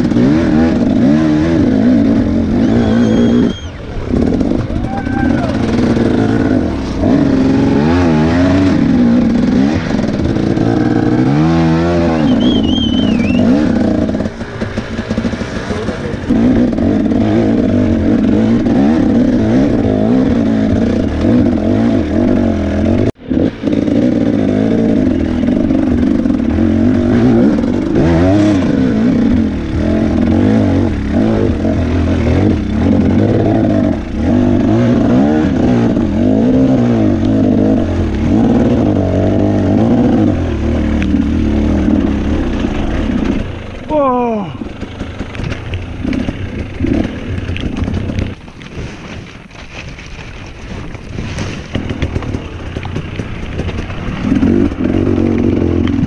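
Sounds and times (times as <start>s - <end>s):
two-stroke engine revving hard: 0.0s - 48.4s, 51.4s - 56.0s.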